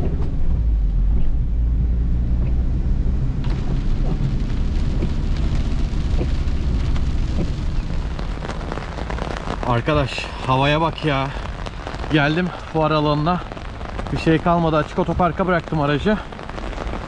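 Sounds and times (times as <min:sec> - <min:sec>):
vehicle rumble in rain: 0:00.0 - 0:17.0.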